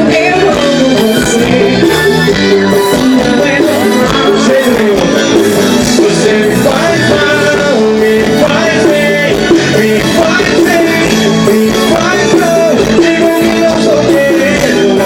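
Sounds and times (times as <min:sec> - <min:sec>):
band playing amplified music: 0:00.0 - 0:15.0.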